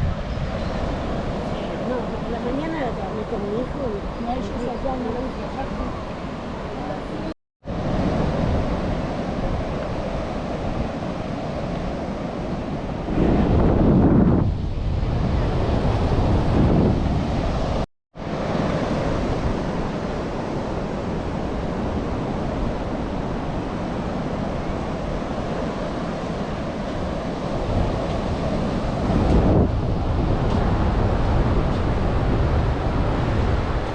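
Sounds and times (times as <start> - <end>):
ocean surf: 0.0 - 33.9
wind buffeting microphone: 0.0 - 33.9.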